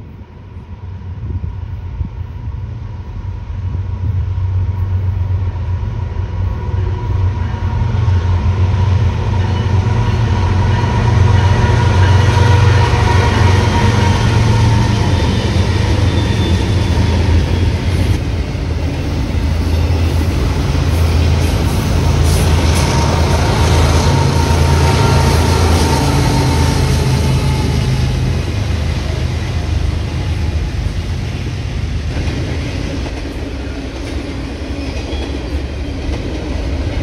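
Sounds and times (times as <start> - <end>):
diesel locomotive engine rumble: 0.0 - 37.0
train rolling by: 0.0 - 37.0.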